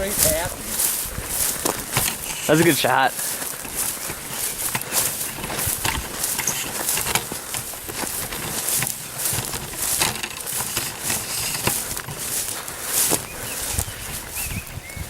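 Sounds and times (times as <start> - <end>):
sharp crackle: 0.0 - 14.8
rustling in dry leaves: 0.0 - 15.0.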